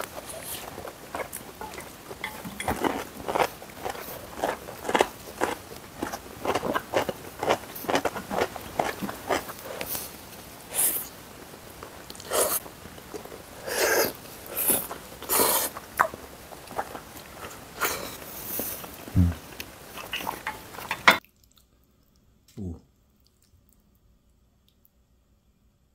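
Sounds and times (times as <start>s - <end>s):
chewing: 0.0s - 10.2s, 12.1s - 22.6s, 23.2s - 24.0s.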